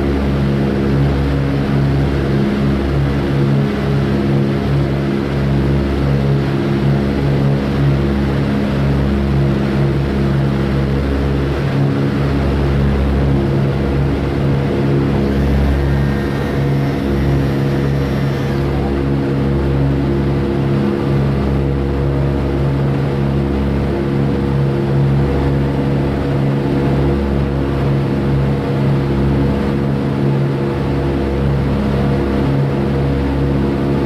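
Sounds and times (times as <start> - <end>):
radial aircraft engines droning: 0.0 - 34.0.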